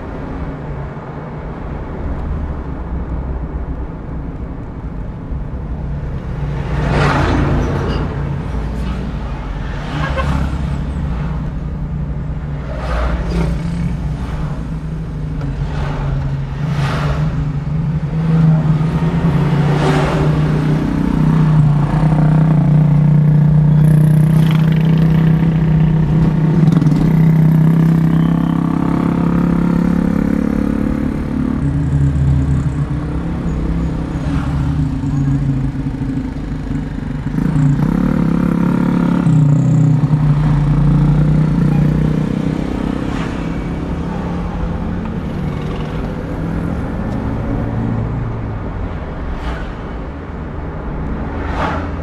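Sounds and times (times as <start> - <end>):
car engine and road drone: 0.0 - 52.0
passing vehicles whooshing: 0.0 - 52.0.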